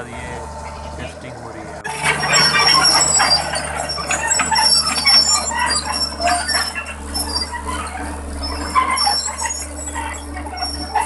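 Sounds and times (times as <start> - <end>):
diesel engine drone: 0.0 - 11.0
high-pitched machine squeals: 0.0 - 11.0
steel tracks clanking: 0.0 - 11.0.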